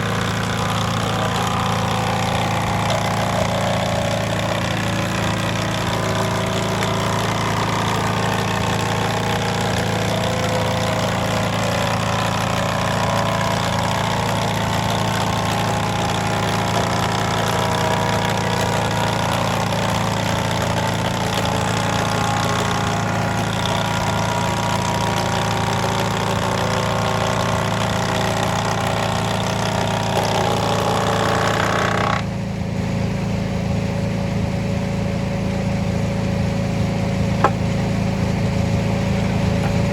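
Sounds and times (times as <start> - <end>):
wood planer cutting: 0.0 - 32.7, 37.2 - 37.6
tractor engine running: 0.0 - 39.9.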